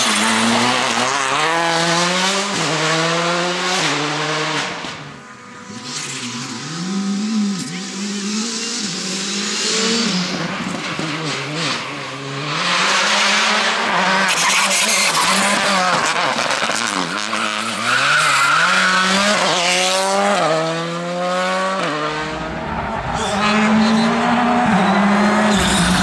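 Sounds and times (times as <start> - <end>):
car accelerating through upshifts: 0.0 - 26.0
rally car engines revving: 0.0 - 26.0.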